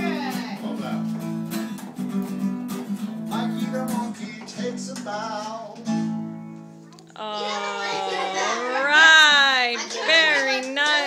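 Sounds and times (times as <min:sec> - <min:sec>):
acoustic guitars strumming chords: 0:00.0 - 0:09.4.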